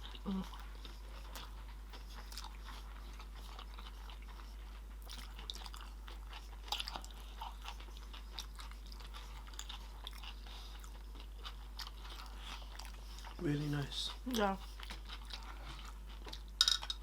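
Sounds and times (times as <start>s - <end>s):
wet mouth clicks chewing: 0.0s - 13.4s, 14.3s - 16.6s
food crunching: 0.0s - 17.0s.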